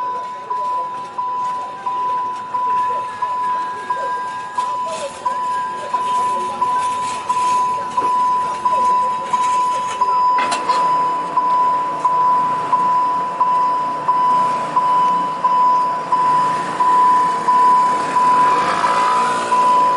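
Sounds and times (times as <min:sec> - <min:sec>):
level crossing bell ringing: 0:00.0 - 0:19.9.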